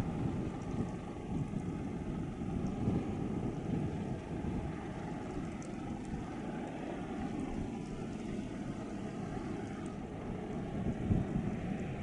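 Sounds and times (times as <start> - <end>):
ship engines running: 0.0 - 12.0
wind buffeting microphone: 0.0 - 12.0.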